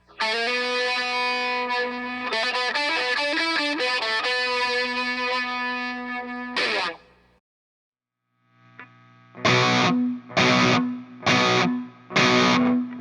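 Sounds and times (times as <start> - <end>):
distorted electric guitar: 0.0 - 7.2, 8.7 - 13.0.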